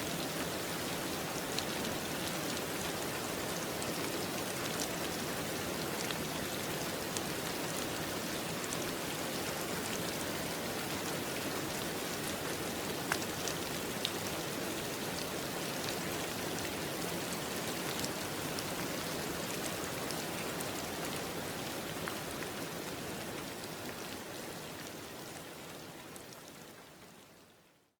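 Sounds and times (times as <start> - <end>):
steady rain: 0.0 - 28.0
raindrops ticking on a surface: 0.1 - 27.9.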